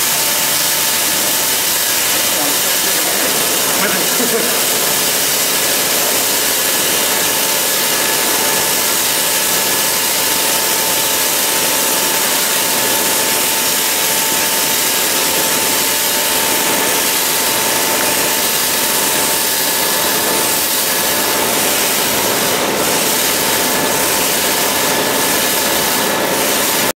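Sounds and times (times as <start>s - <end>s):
roasting machine hiss: 0.0s - 26.9s.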